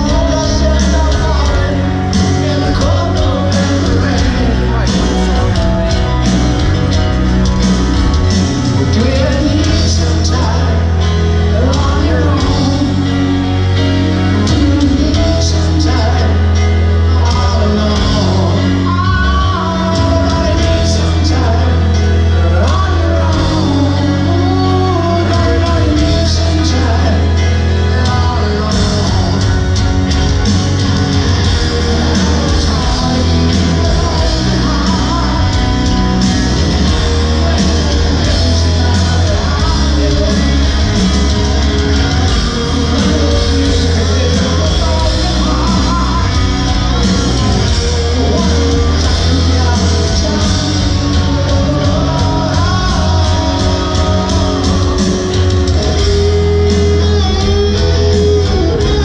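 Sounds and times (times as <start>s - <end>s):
heavy boomy bass: 0.0s - 59.0s
lead voice singing: 0.0s - 59.0s
live rock ballad over sound system: 0.0s - 59.0s.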